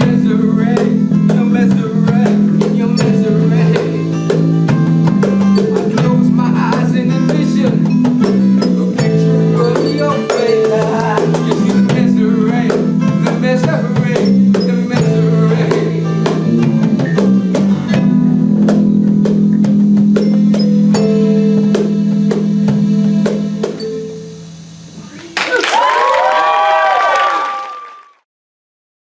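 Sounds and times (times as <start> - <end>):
drum kit beat: 0.0 - 25.4
guitar and bass chords: 0.0 - 25.4.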